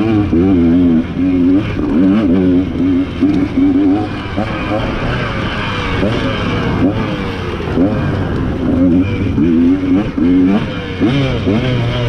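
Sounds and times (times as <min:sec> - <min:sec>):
racing engines revving: 0:00.0 - 0:12.0.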